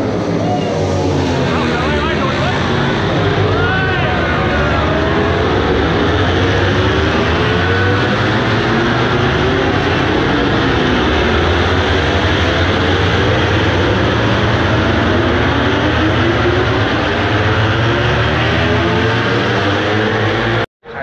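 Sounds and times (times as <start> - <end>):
racing motorcycles passing: 0.0 - 20.7.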